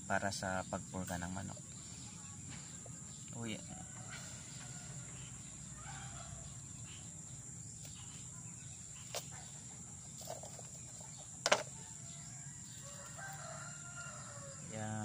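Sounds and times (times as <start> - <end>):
high insect trill: 0.0 - 15.0.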